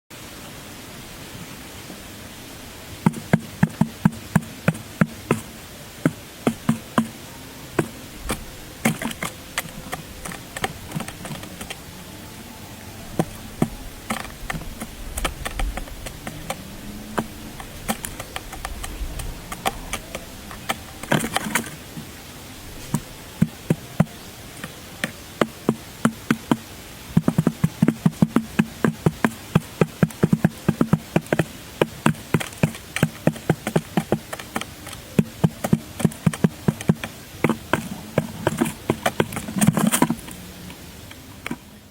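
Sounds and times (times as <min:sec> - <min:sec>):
steady hiss: 0:00.1 - 0:41.9
sharp taps and knocks: 0:03.0 - 0:07.2, 0:07.8 - 0:11.8, 0:13.2 - 0:22.1, 0:22.8 - 0:40.4.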